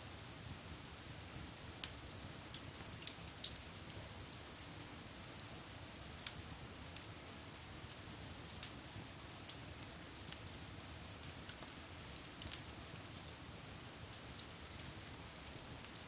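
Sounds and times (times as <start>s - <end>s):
wood fire crackling: 0.7s - 16.0s.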